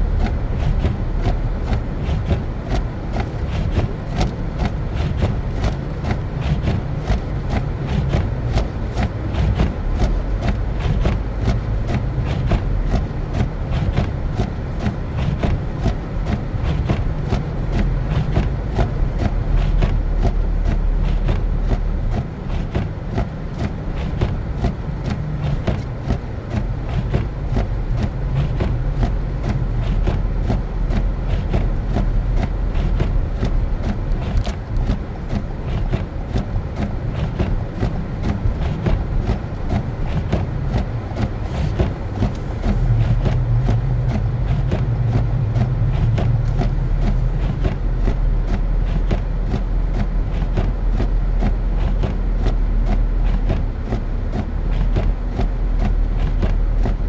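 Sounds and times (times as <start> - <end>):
engine and tyres rumbling: 0.0 - 57.0.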